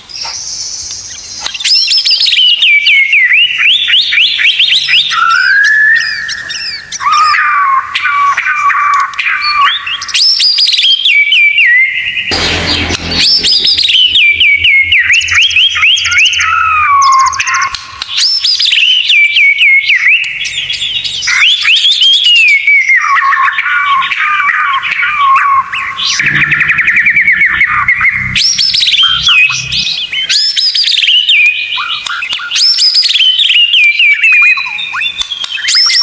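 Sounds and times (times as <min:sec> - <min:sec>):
high rapid bird trills: 0:00.0 - 0:36.0
songbird whistled notes: 0:00.1 - 0:36.0.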